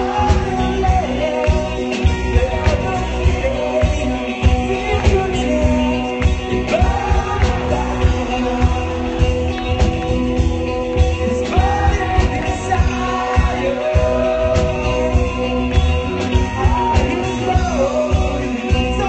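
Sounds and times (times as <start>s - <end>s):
drums: 0.0s - 19.0s
electric guitar: 0.0s - 19.0s
man singing: 0.0s - 19.0s.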